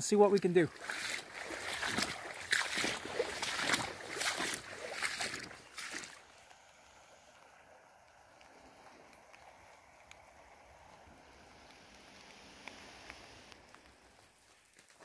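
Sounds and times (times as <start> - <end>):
rain falling on a stream: 0.0 - 15.0.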